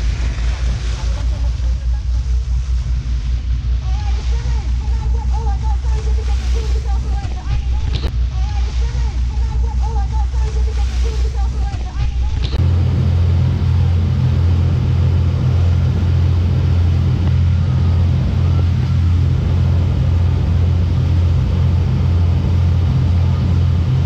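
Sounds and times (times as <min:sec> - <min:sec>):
motorboat engine drone: 0:00.0 - 0:24.0
water churning in wake: 0:00.0 - 0:24.0.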